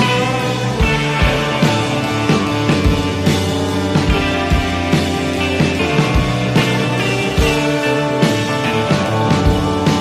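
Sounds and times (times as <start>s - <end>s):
music with drum beat and chords: 0.0s - 10.0s.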